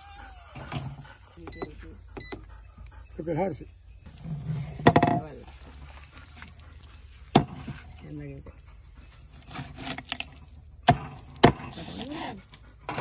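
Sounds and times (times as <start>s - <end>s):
high-pitched insect buzz: 0.0s - 13.0s.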